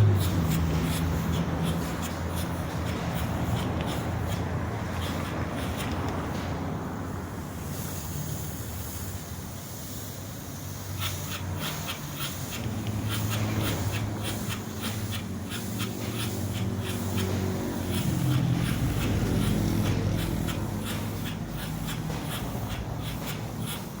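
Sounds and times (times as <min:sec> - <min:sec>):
short hissing spurts: 0:00.0 - 0:24.0
spraying equipment humming: 0:00.0 - 0:24.0.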